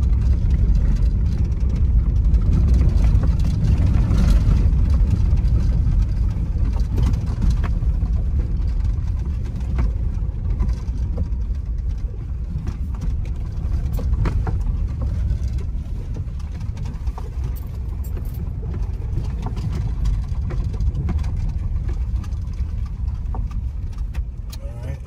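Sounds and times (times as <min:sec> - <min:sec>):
low engine and road rumble: 0:00.0 - 0:25.0.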